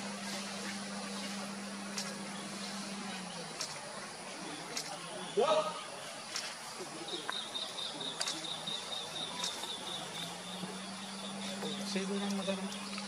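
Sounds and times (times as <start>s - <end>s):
faint low hum: 0.0s - 13.0s
outdoor background noise: 0.0s - 13.0s.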